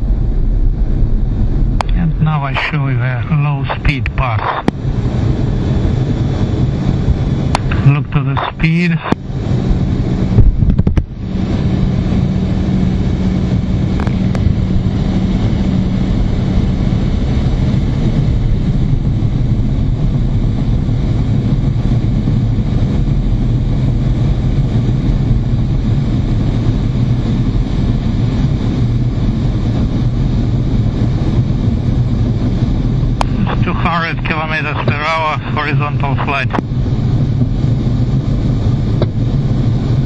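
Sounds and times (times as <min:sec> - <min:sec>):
jet cockpit rushing drone: 0:00.0 - 0:40.0.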